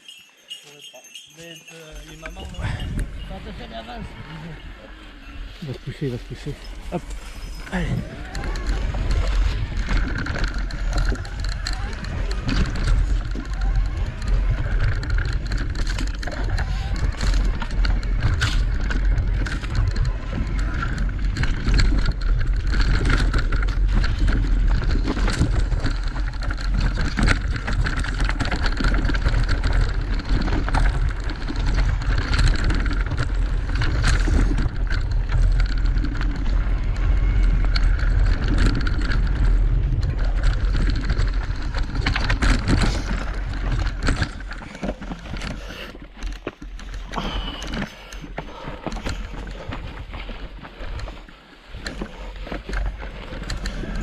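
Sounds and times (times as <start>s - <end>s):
bike knocking and rattling: 0.0s - 54.0s
tyres on dirt and rocks: 0.0s - 54.0s
wind buffeting microphone: 1.9s - 45.7s.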